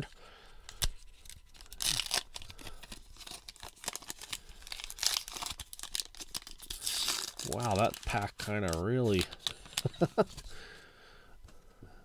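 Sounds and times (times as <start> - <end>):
wrapper tearing and crinkling: 0.7 - 10.4.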